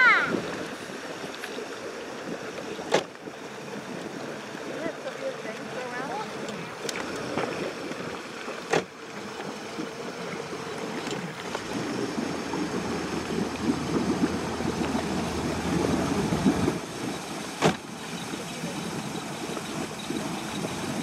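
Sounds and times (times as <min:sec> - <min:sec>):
motorboat engine idling: 0:00.0 - 0:21.0
water sloshing against hull: 0:00.0 - 0:21.0.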